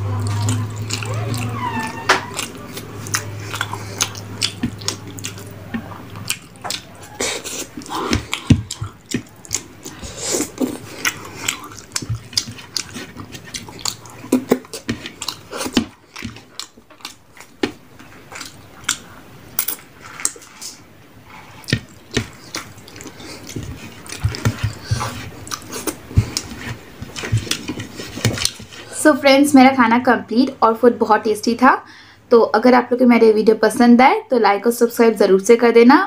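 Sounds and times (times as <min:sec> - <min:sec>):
hands squishing wet food: 0:00.0 - 0:29.0.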